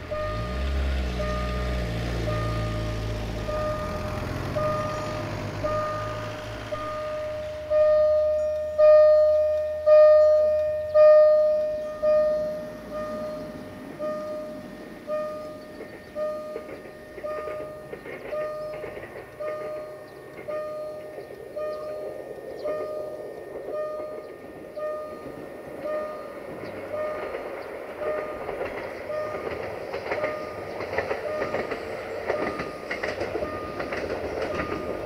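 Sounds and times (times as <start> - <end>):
distant train rumble: 0.0 - 35.0
level crossing bell ringing: 0.0 - 35.0.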